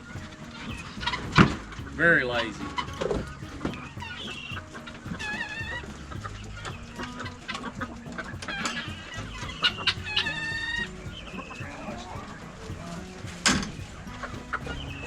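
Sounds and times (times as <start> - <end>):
chickens clucking and calling: 0.0 - 15.0.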